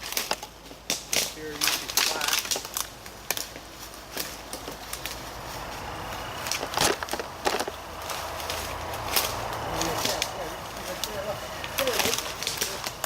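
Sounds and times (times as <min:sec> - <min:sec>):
footsteps on rough ground: 0:00.0 - 0:13.0.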